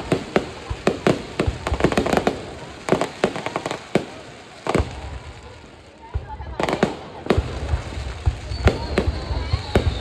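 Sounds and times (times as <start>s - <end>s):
heavy firework booms: 0.0s - 5.5s, 6.1s - 10.0s
fireworks bangs and crackles: 0.0s - 10.0s.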